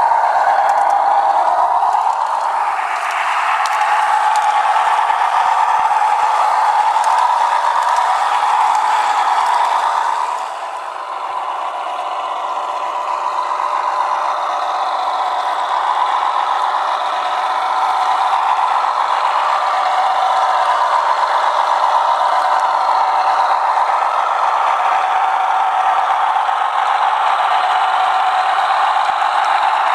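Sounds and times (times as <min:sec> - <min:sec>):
diesel engine sound from small speaker: 0:00.0 - 0:29.9
model train wheels rattling on track: 0:00.0 - 0:29.9.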